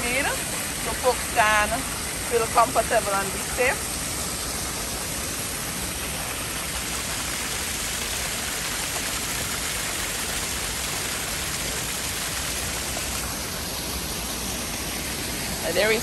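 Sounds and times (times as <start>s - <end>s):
water pouring over rock: 0.0s - 16.0s.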